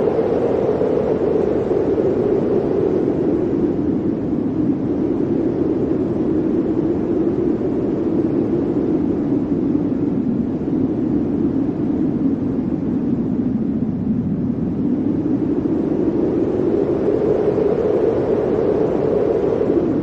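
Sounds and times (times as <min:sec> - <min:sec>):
blizzard wind howling: 0:00.0 - 0:20.0.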